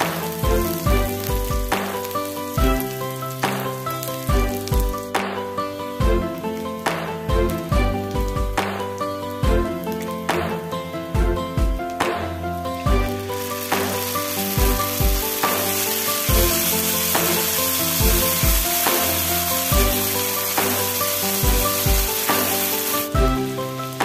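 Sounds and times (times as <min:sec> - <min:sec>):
chili paste sizzling in oil: 0:00.0 - 0:10.3, 0:12.7 - 0:24.0
background music with beat: 0:00.0 - 0:24.0.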